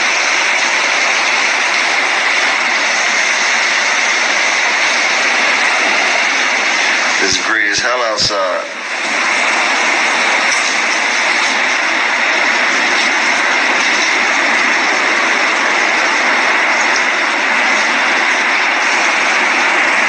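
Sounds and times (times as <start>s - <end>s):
hurricane wind and rain: 0.0s - 20.0s.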